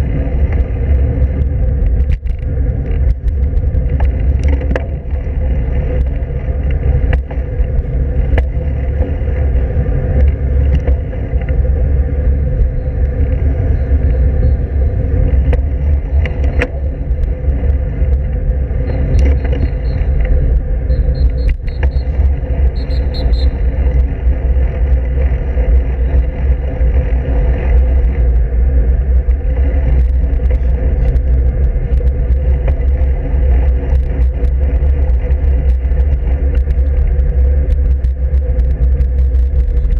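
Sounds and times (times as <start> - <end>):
bicycle road noise: 0.0 - 39.9
wind buffeting microphone: 0.0 - 39.9.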